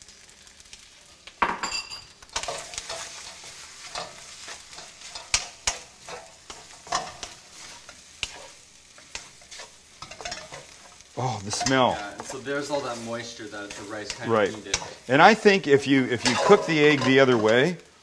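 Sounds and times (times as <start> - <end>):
rice sizzling in a wok: 0.0 - 18.0
wooden spoon scraping pan: 2.4 - 15.4, 16.0 - 17.6.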